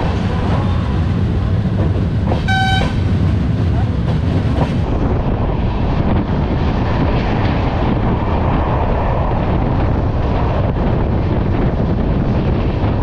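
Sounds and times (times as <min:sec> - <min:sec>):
passenger train running: 0:00.0 - 0:13.0
wind blowing across microphone: 0:00.0 - 0:13.0.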